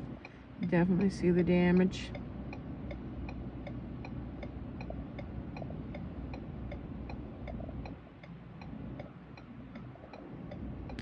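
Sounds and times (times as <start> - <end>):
low rumble: 0.0 - 11.0
steady ticking: 0.0 - 11.0.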